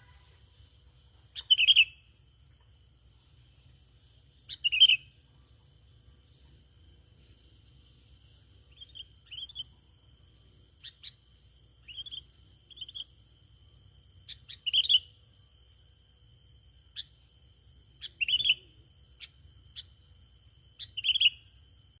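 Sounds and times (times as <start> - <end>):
bird chirping: 0.0 - 16.0, 16.7 - 21.6
faint steady high tone: 0.0 - 22.0.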